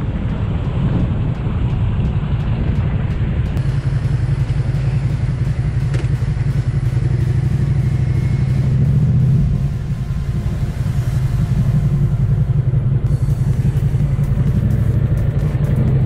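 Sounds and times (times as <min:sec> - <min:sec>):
motorcycle engine running: 0:00.0 - 0:16.0
road and wind noise: 0:00.0 - 0:16.0.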